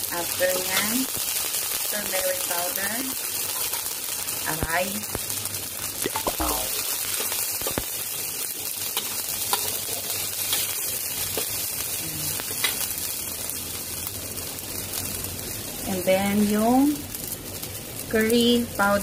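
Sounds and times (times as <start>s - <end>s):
curry base sizzling in a pan: 0.0s - 19.0s.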